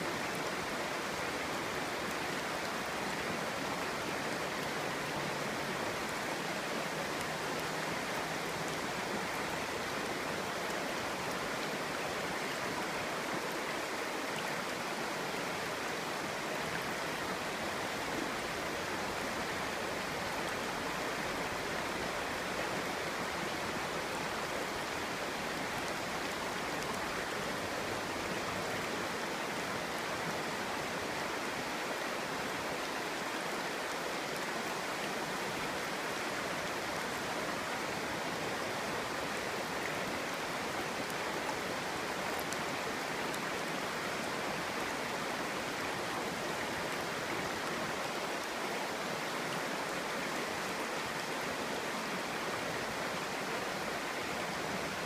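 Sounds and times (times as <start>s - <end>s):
stream burbling over stones: 0.0s - 55.0s.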